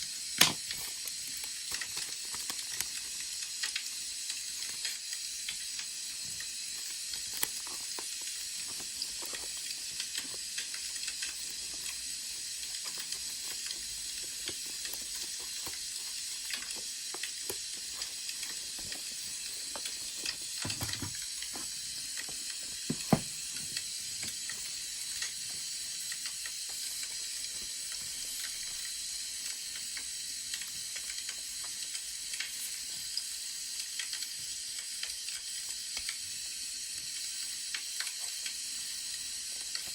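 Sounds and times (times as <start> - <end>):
wood fire crackling: 0.0 - 34.2.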